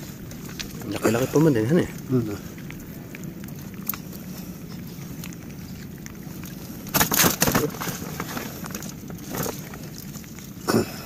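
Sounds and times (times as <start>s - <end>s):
plastic sack rustling: 0.0s - 11.0s
water: 0.0s - 11.0s
wind: 0.0s - 11.0s.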